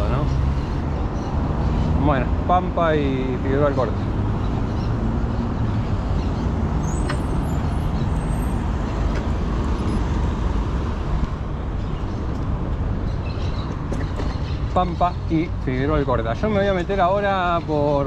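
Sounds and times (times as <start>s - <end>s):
car traffic: 0.0s - 18.0s.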